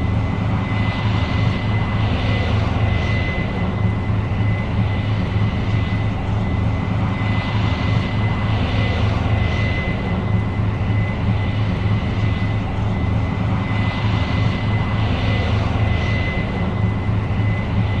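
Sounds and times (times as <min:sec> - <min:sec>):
combine engine drone: 0:00.0 - 0:18.0
high whine: 0:00.0 - 0:18.0.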